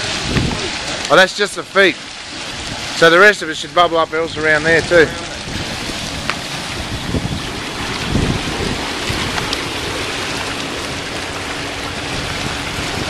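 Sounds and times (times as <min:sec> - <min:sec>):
spa jets water bubbling: 0:00.0 - 0:13.0.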